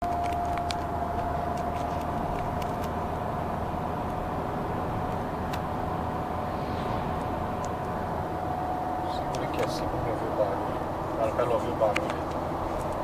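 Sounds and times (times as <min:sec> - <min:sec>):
car road and engine rumble: 0:00.0 - 0:13.0
gearbox whining: 0:00.0 - 0:13.0.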